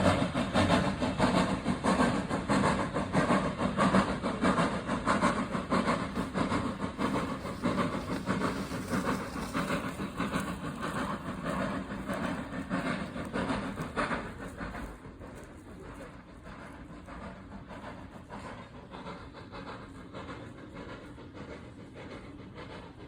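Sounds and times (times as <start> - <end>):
train wheels clattering on track: 0.0 - 23.0.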